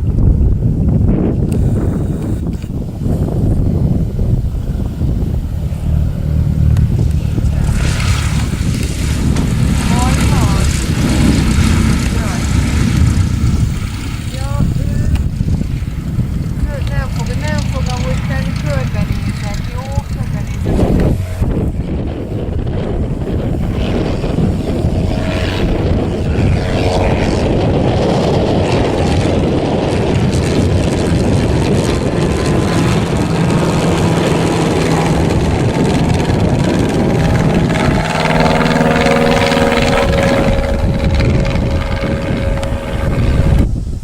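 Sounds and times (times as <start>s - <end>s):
propeller aircraft engine: 0.0s - 44.0s
wind rumble on microphone: 0.0s - 44.0s.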